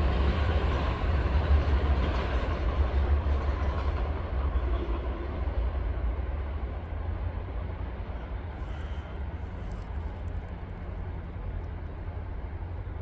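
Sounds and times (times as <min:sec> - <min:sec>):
diesel train rumbling past: 0:00.0 - 0:13.0.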